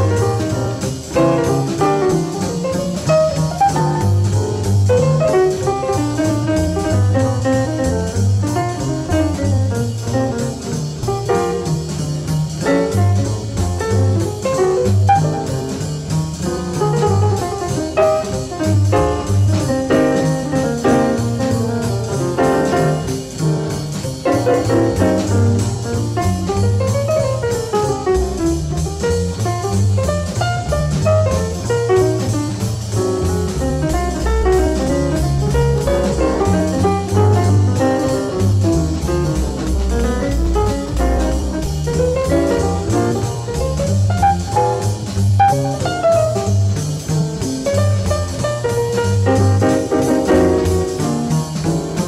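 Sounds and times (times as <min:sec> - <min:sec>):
jazz guitar with bass and drums: 0:00.0 - 0:52.0.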